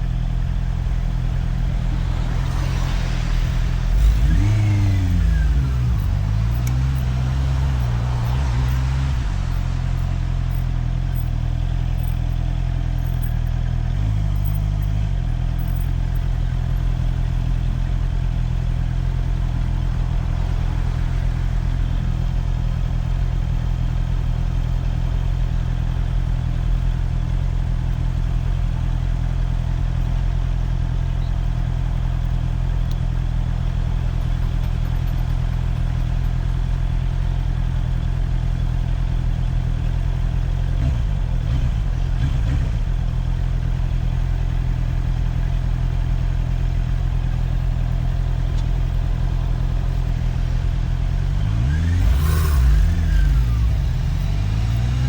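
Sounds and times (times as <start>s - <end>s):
motorcycle engine idling: 0.0s - 51.6s, 52.2s - 55.0s.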